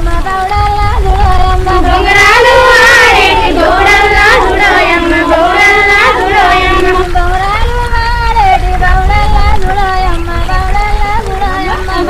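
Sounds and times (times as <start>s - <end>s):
high voice singing folk song: 0.0s - 12.0s.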